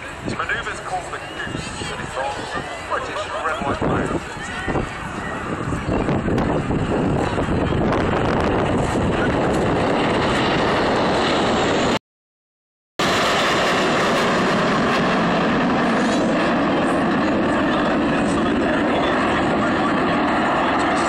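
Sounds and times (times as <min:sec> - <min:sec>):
jets flying past: 0:00.0 - 0:12.0, 0:13.0 - 0:21.0.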